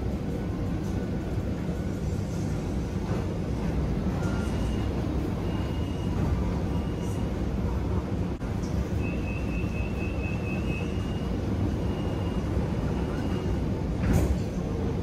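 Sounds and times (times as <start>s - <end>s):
train car rumble and hum: 0.0s - 15.0s.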